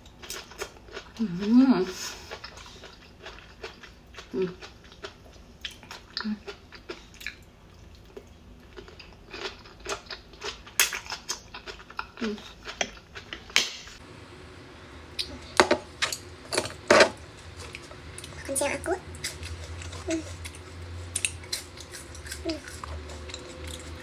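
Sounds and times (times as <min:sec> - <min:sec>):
chewing with crunches: 0:00.0 - 0:13.6, 0:16.0 - 0:24.0.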